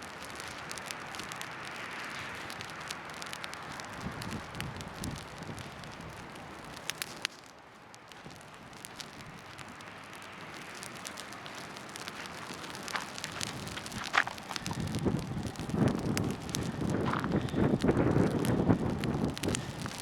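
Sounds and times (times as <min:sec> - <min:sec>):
bonfire crackling hiss: 0:00.0 - 0:20.0
sharp pops of fire: 0:00.0 - 0:20.0.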